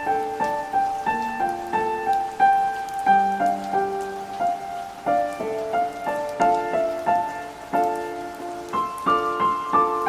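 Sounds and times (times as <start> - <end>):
rain hissing and pattering: 0.0 - 10.0
soft piano melody: 0.0 - 10.0.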